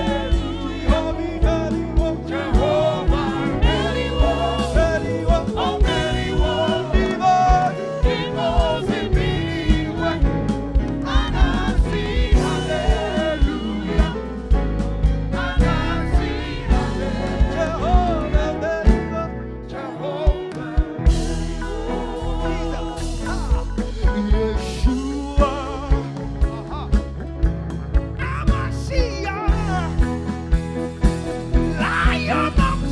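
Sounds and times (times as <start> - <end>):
steady drum beat: 0.0 - 19.2, 19.9 - 32.9
bass: 0.0 - 32.9
gospel singing: 0.0 - 32.9.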